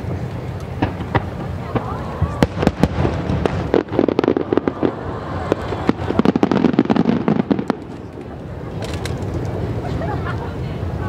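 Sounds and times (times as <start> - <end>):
continuous rumble: 0.0 - 11.0
fireworks bangs and crackles: 0.0 - 11.0.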